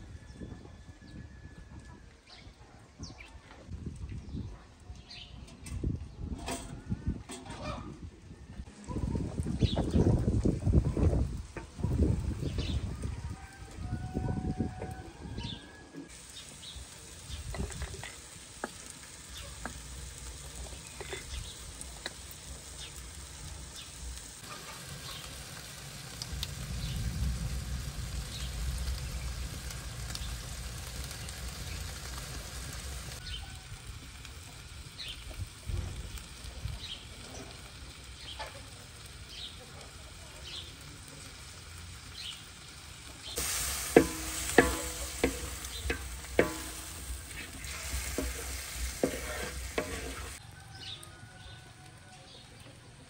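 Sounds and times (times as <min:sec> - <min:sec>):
food sizzling in a wok: 0:08.7 - 0:52.6.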